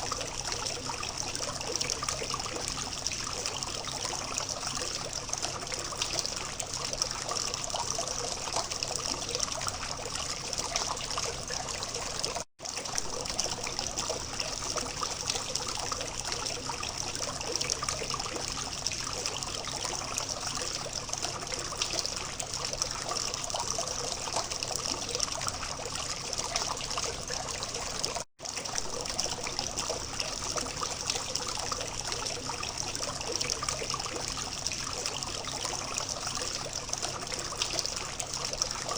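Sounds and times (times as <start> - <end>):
fountain water trickling and splashing: 0.0 - 38.9.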